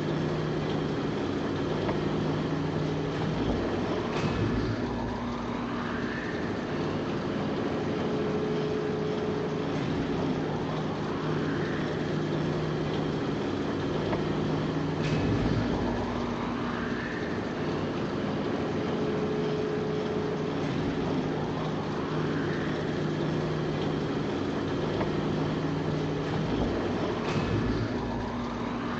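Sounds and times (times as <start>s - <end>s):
faint rising whine: 0.0s - 28.9s
low machinery drone: 0.0s - 28.9s.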